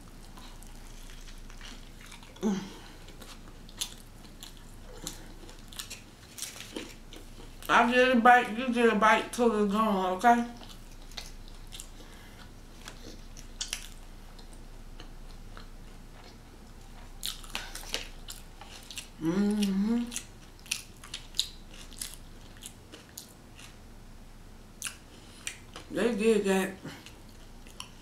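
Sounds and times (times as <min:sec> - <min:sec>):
person chewing: 0:00.0 - 0:07.7, 0:10.5 - 0:23.8, 0:24.8 - 0:25.9, 0:26.9 - 0:28.0.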